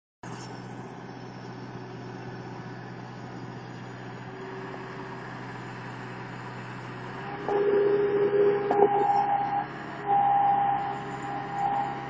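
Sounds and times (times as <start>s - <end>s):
loader engine running: 0.4s - 12.0s.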